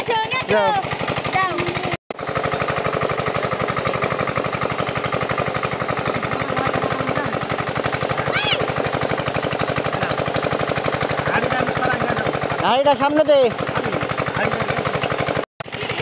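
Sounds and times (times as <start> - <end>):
small engine chugging: 0.0 - 16.0.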